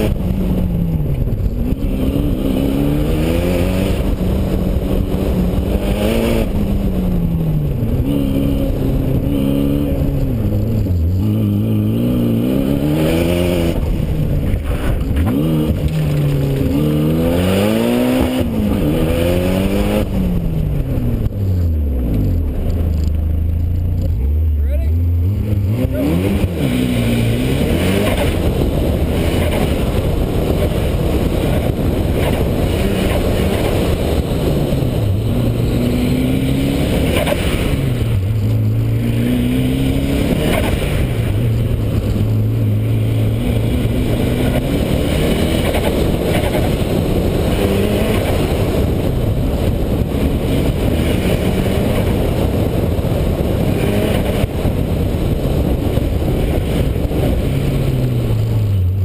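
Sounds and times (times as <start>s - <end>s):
car engine revving: 0.0s - 59.0s
low rumble: 0.0s - 59.0s.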